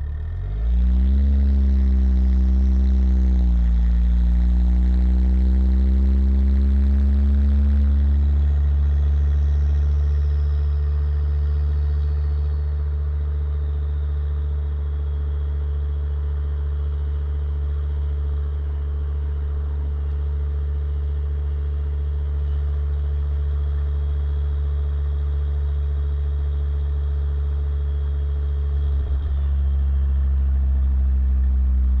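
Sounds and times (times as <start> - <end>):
car exhaust droning: 0.0 - 32.0.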